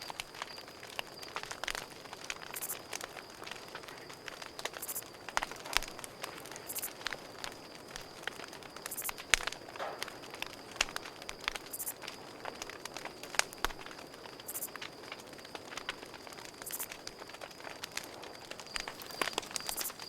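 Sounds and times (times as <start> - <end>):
campfire crackling: 0.0 - 20.0
crickets trilling: 0.0 - 20.0.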